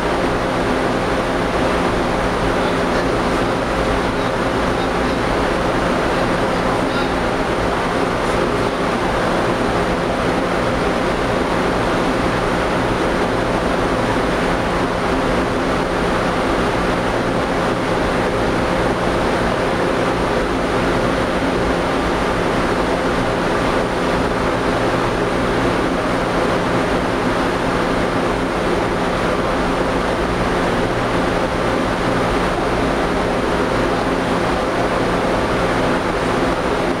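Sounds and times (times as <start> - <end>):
constant low hum: 0.0 - 37.0.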